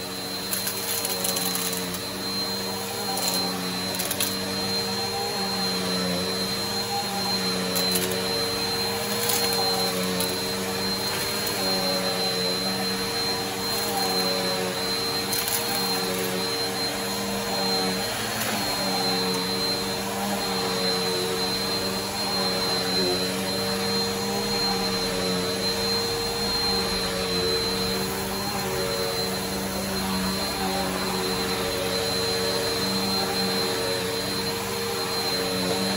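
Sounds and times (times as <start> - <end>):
vacuum cleaner whining: 0.0 - 35.9.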